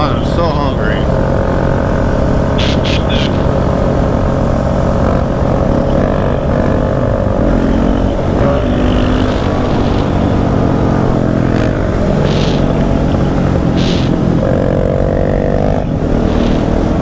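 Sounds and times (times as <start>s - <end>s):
dirt bike engine running: 0.0s - 17.0s
wind rumbling on microphone: 1.0s - 17.0s.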